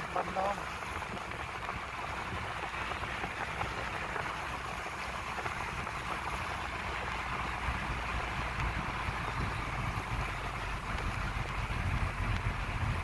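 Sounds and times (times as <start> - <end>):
low road rumble: 0.0 - 13.0
tyres hissing on wet road: 0.0 - 13.0.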